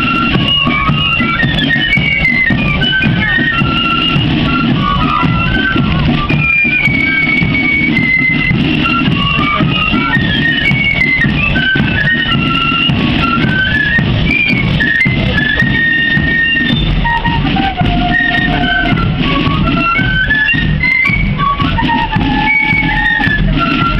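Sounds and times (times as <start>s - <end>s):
drums beating: 0.0s - 23.9s
flutes playing in unison: 0.0s - 23.9s.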